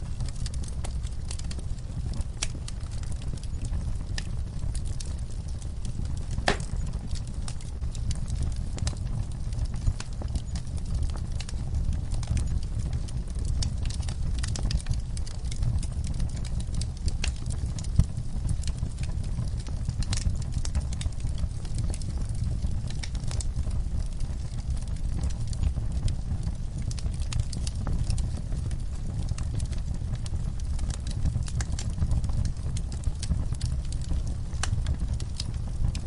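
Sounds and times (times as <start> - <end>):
low rumble of burning fire: 0.0 - 36.0
wood fire crackling: 0.0 - 36.0.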